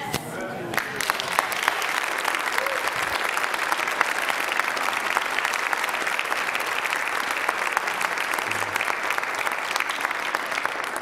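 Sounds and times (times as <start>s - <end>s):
crowd applauding: 0.1s - 11.0s.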